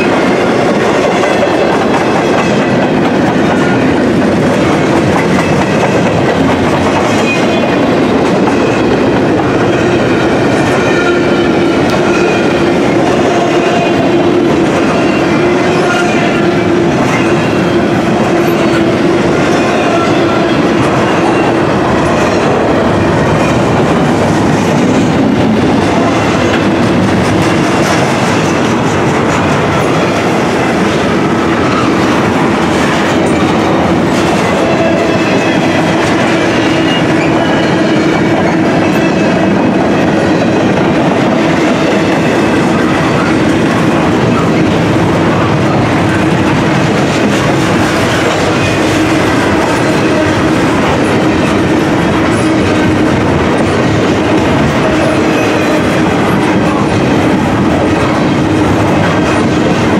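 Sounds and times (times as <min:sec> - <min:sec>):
steel wheels on rail: 0:00.0 - 0:59.9.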